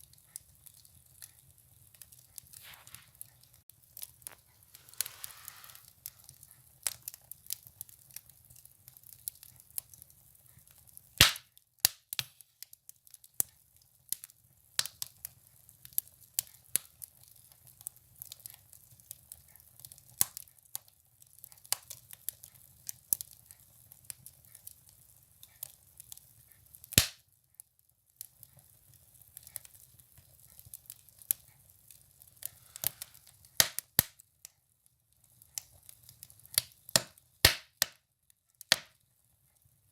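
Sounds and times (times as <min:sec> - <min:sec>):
faint hiss of flames: 0:00.0 - 0:27.2, 0:28.1 - 0:37.9
firewood crackling and popping: 0:00.0 - 0:39.8.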